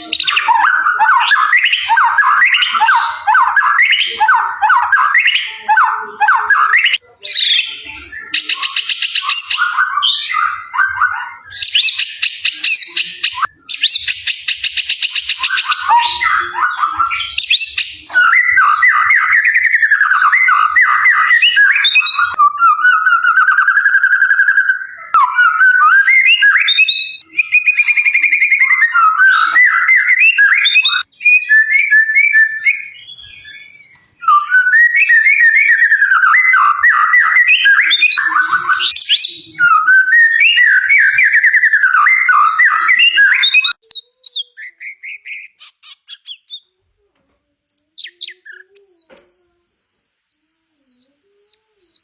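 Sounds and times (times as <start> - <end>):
songbird singing: 0.0 - 52.0.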